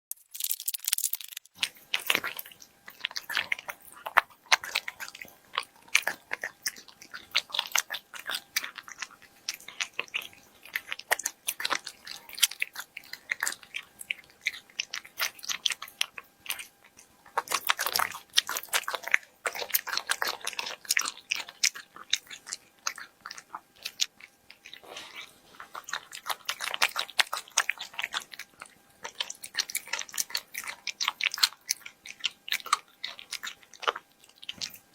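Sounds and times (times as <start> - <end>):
cat crunching and chewing food: 0.1 - 34.9.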